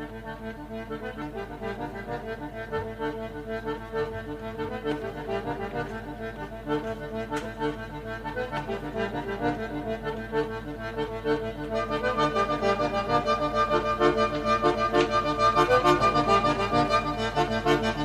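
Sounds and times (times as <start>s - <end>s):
accordion playing pulsing chords: 0.0s - 18.0s.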